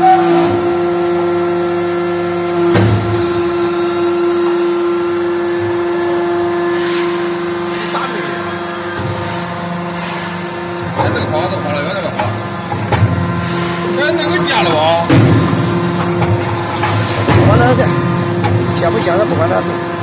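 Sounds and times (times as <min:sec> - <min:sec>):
hydraulic pump whine: 0:00.0 - 0:20.0.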